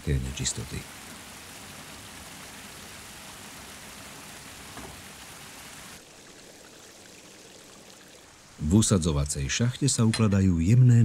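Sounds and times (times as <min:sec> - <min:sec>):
stream water rushing: 0:00.0 - 0:10.2.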